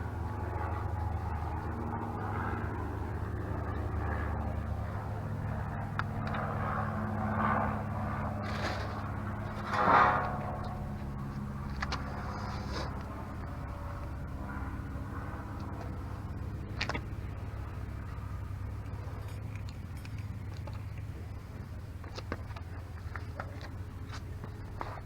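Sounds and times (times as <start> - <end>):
motor vehicle running: 0.0 - 25.0.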